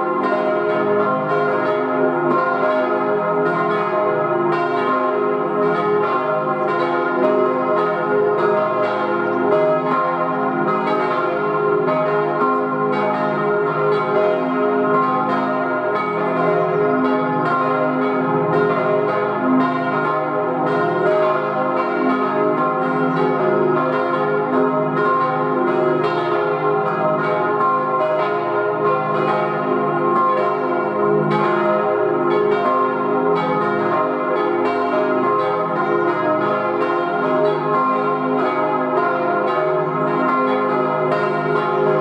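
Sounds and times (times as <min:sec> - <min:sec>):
church bells pealing: 0:00.0 - 0:42.0.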